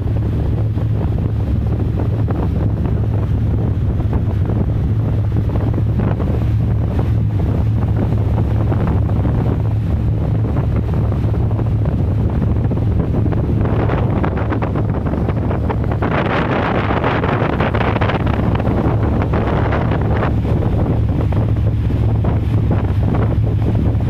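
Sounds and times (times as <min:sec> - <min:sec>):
water rushing: 0:00.0 - 0:24.0
wind buffeting microphone: 0:00.0 - 0:24.0.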